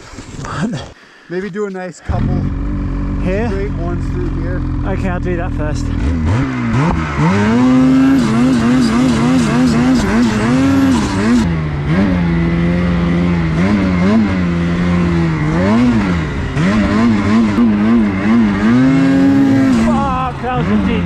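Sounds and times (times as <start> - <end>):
snowmobile engine revving: 0.5 - 21.0.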